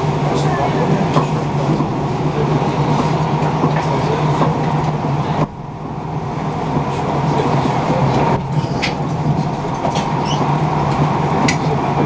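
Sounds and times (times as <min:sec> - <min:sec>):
train running rumble and hum: 0:00.0 - 0:12.0.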